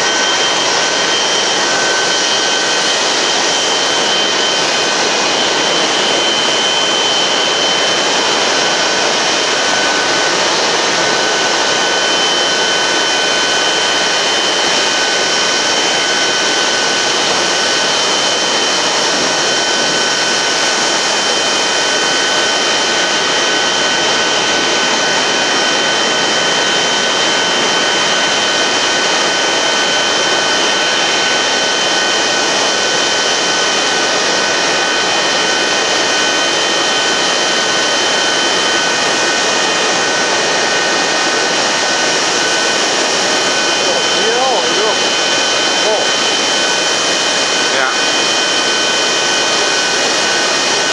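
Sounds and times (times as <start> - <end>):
jet turbine whine: 0.0 - 50.9.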